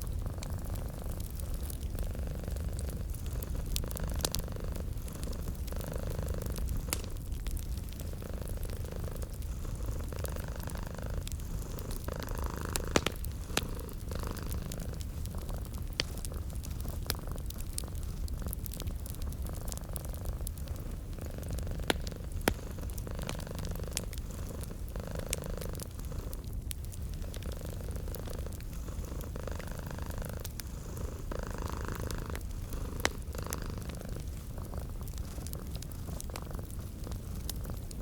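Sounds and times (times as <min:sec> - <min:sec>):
cat purring: 0:00.0 - 0:38.0
wood fire crackling and popping: 0:00.0 - 0:38.0.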